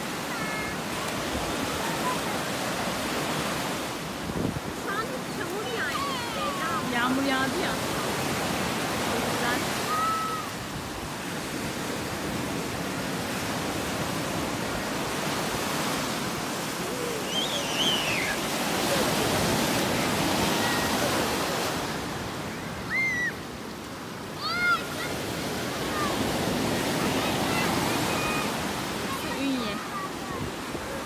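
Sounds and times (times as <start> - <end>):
surf breaking on sand: 0.0 - 31.0.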